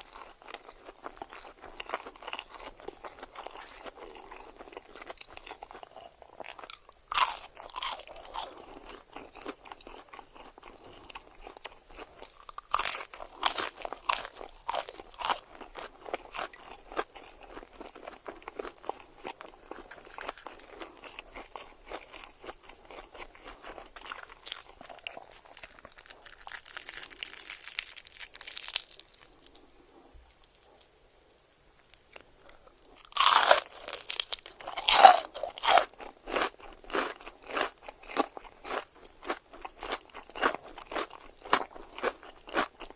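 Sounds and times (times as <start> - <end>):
crunching bites: 0.0 - 30.8, 31.8 - 42.9
soft chewing: 0.0 - 42.9.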